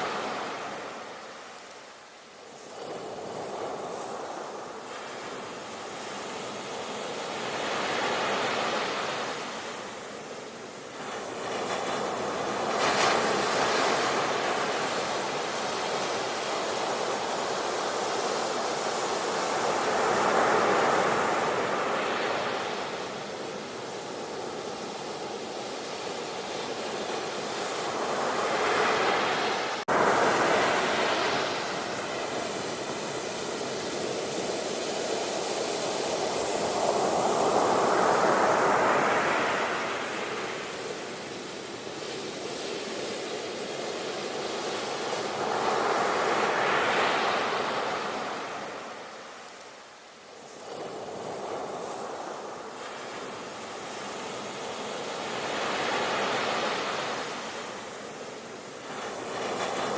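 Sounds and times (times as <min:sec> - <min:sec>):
sea waves rushing and washing back: 0:00.0 - 0:59.9.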